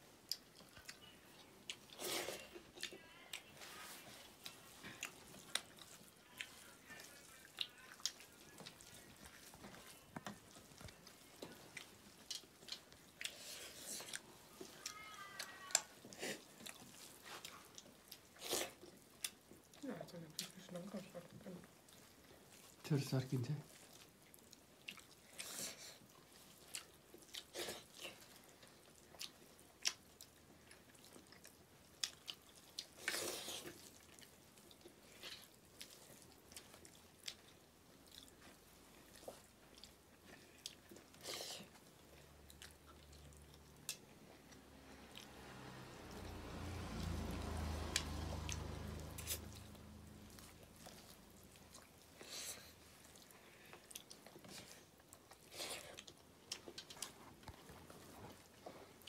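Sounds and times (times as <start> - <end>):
soft chewing: 0.0 - 59.0.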